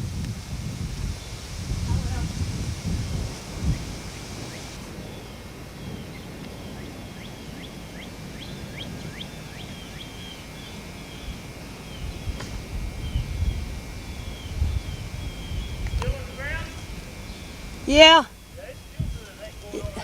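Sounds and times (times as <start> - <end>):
wind rumble: 0.0 - 20.0
birds chirping: 0.8 - 20.0.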